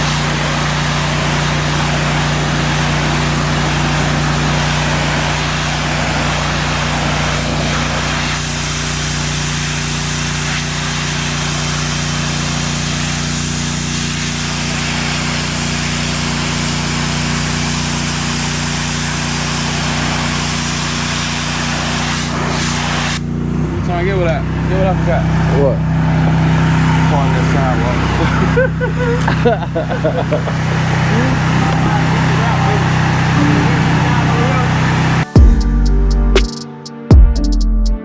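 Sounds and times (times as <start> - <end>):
water spray hissing on pavement: 0.0 - 35.3
pressure washer engine running: 0.0 - 36.4.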